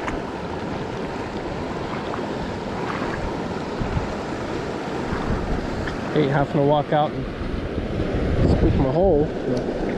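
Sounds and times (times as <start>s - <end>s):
creek water flowing: 0.0s - 9.9s.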